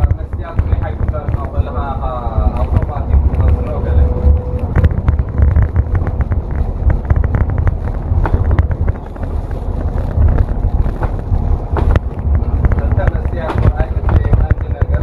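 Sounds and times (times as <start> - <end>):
bus engine rumble: 0.0 - 15.0
wind buffeting microphone: 0.0 - 15.0.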